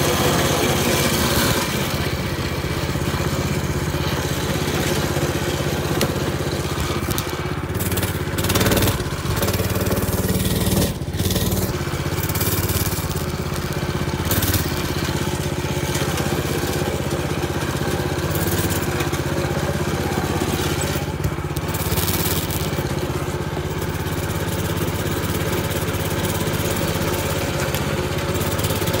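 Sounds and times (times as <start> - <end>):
mini bike engine running: 0.0 - 29.0.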